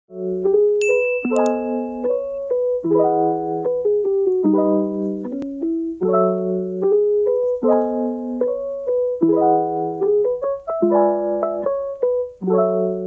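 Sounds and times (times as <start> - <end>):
soft piano tune: 0.1 - 13.0.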